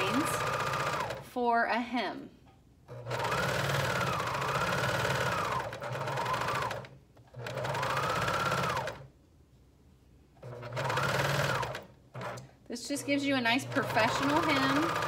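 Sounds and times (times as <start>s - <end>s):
sewing machine running: 0.0s - 1.3s, 2.9s - 9.1s, 10.4s - 15.0s.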